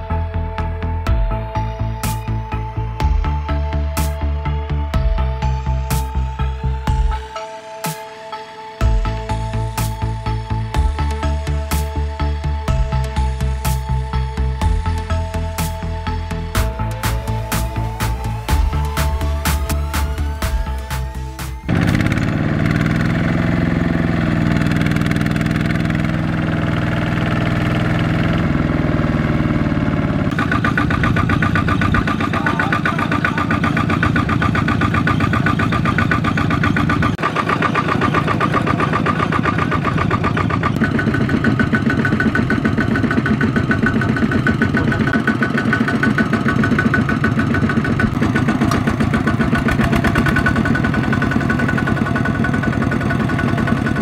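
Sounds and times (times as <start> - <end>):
diesel tractor engine chugging: 8.8 - 54.0.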